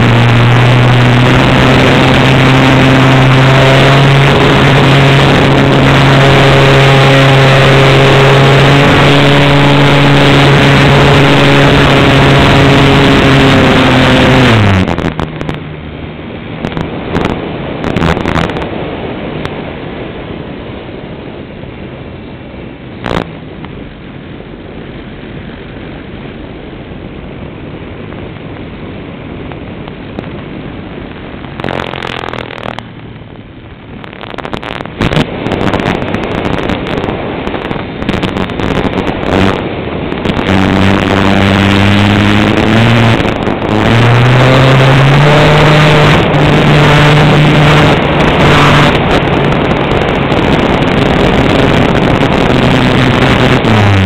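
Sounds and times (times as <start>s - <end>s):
propeller plane engine running: 0.0s - 54.0s.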